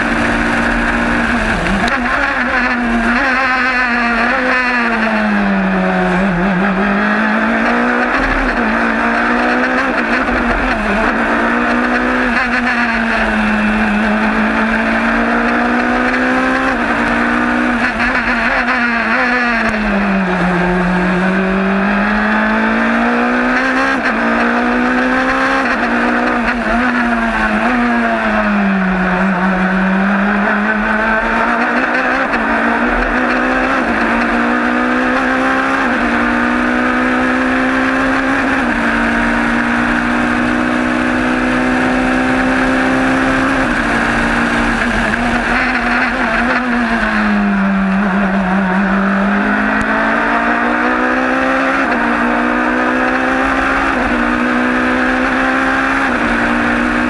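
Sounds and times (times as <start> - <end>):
race car engine: 0.0 - 57.0.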